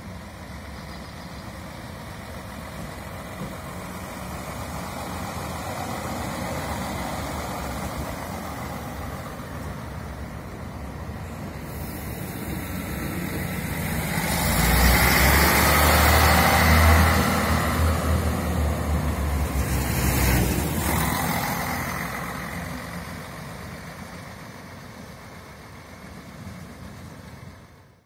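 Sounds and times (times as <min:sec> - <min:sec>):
diesel railcar engine droning: 0:00.0 - 0:28.0.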